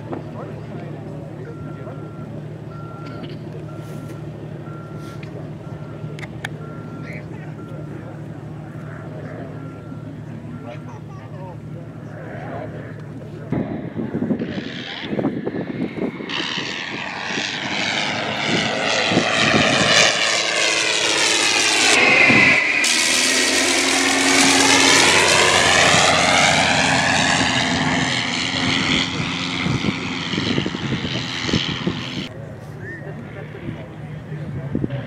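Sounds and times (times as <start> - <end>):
biplane engine flyby: 0.0 - 35.0.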